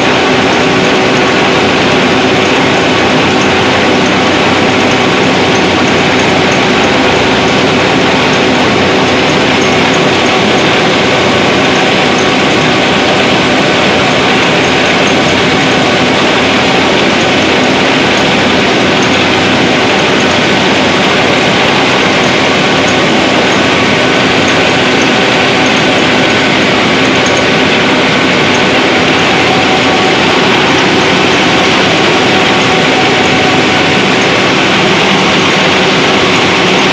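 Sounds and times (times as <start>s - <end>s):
rice mill machinery running: 0.0s - 36.9s.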